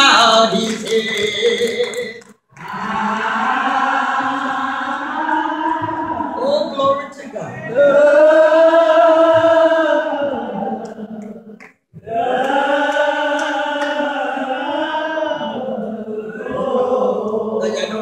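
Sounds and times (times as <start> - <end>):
congregation singing a hymn: 0.0 - 18.0.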